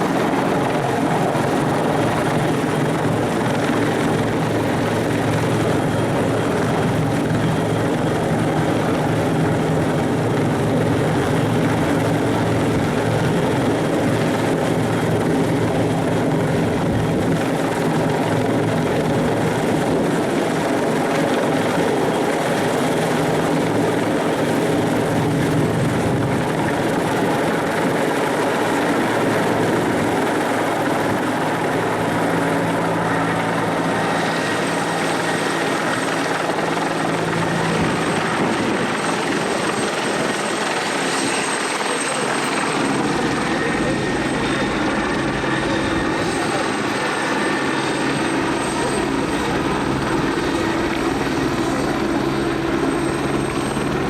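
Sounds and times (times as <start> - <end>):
helicopter rotor and engines: 0.0 - 54.0.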